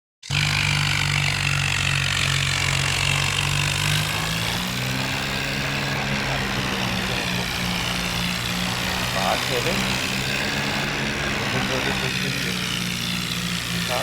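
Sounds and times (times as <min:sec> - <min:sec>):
heavy diesel engine running: 0:00.3 - 0:14.0.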